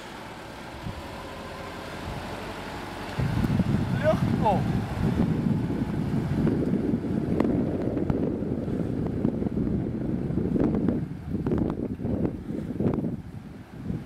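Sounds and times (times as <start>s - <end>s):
car engine pulling away: 0.0s - 14.0s
wind buffeting microphone: 0.0s - 14.0s.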